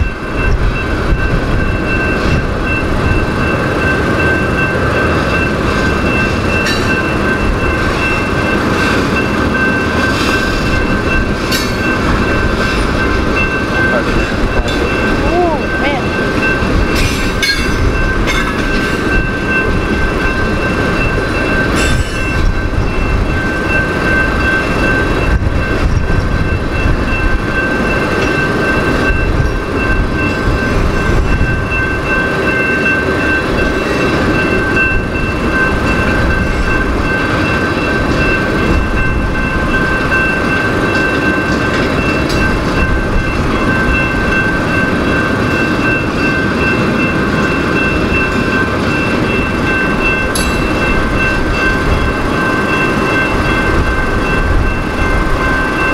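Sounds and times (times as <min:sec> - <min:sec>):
freight train rolling past: 0:00.0 - 0:55.9
steady high ringing tone: 0:00.0 - 0:55.9
steel wheels clattering on rail: 0:00.0 - 0:55.9.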